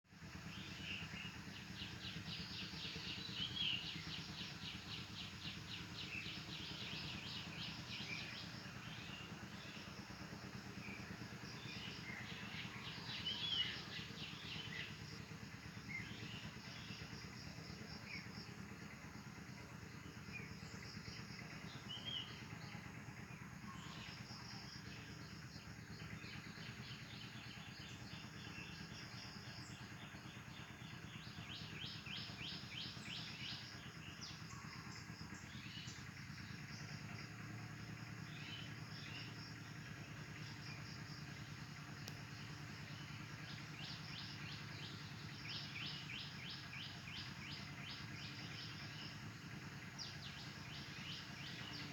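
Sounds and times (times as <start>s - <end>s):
small birds chirping: 0.2s - 51.9s.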